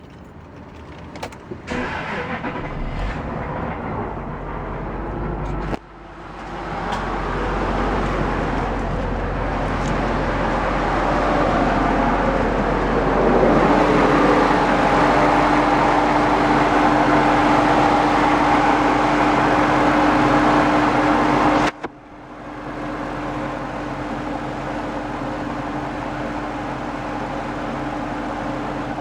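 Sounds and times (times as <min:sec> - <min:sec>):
knocking car engine running: 0:00.0 - 0:29.0.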